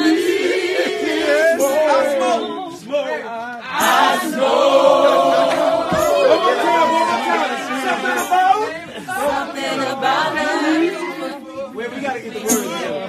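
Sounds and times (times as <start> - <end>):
men singing and chanting: 0.0 - 13.0.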